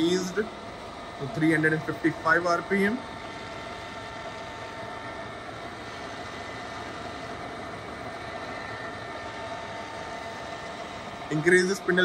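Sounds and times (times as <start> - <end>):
drill spindle mechanical hum: 0.0 - 12.0.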